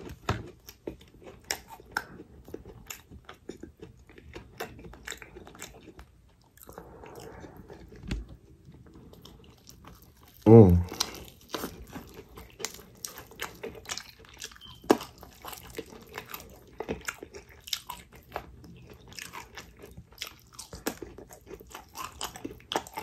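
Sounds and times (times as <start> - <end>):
chewing crispy fried chicken: 0.0 - 23.0.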